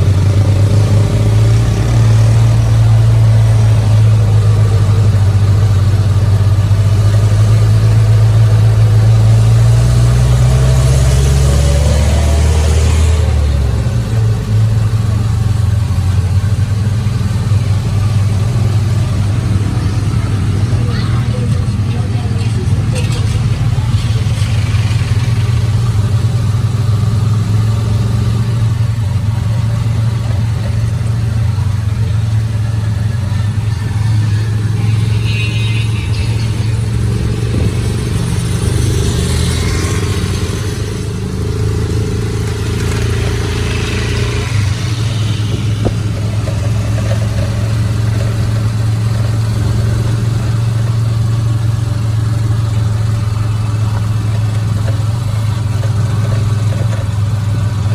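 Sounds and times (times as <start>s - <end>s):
vehicle engine and road noise: 0.0s - 57.9s.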